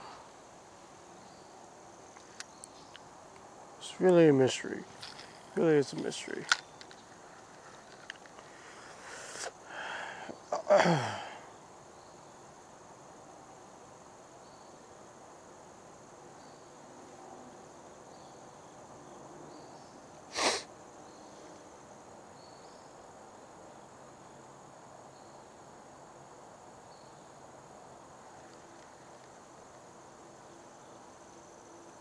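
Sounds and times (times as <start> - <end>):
high insect drone: 0.0 - 32.0.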